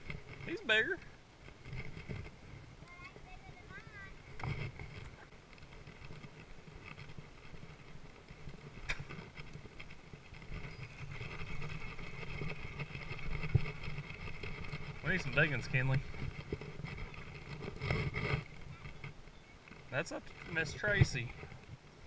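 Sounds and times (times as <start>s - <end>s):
rustling and handling noise: 0.0s - 22.0s.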